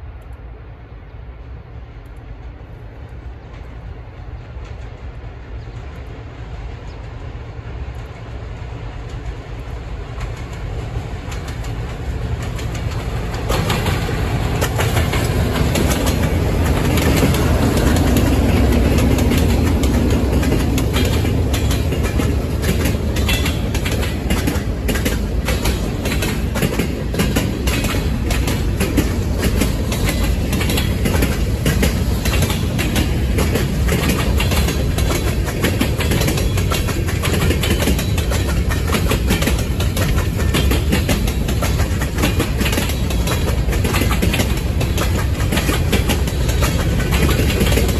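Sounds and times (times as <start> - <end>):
diesel locomotive engines: 0.0 - 47.9
train wheels clickety-clack: 1.4 - 47.9.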